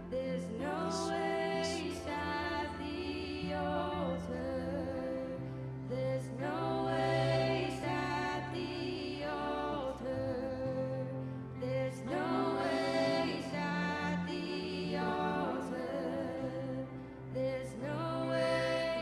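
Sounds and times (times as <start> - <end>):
person singing worship song: 0.0 - 19.0.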